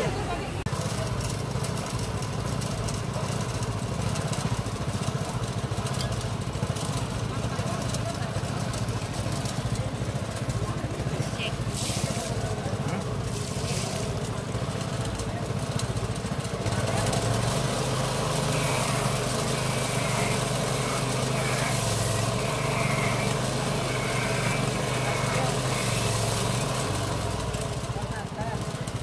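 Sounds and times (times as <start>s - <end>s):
coconut shredding machine humming: 0.0s - 29.0s.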